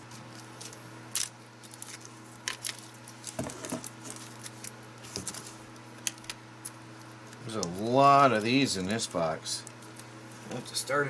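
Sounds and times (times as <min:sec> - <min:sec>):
packing peanuts rustling: 0:00.0 - 0:09.8.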